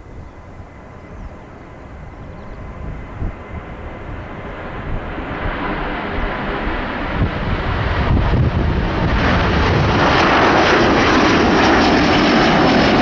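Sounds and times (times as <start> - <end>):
jet engines at takeoff power: 0.0 - 13.0
wind rumbling on microphone: 0.0 - 13.0.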